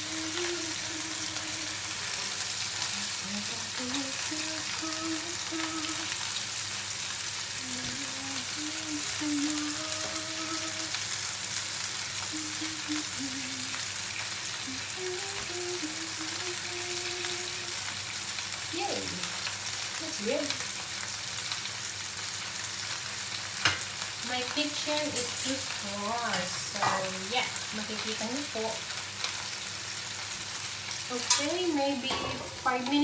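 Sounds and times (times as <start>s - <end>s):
chicken frying in a pan: 0.0s - 33.0s.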